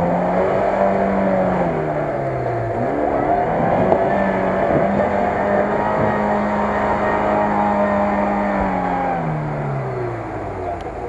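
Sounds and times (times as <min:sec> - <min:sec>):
car engine revving in mud: 0:00.0 - 0:11.0.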